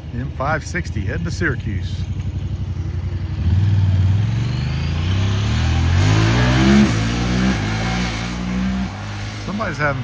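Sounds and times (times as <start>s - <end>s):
road noise: 0.0s - 10.0s
engine accelerating hard: 1.1s - 10.0s.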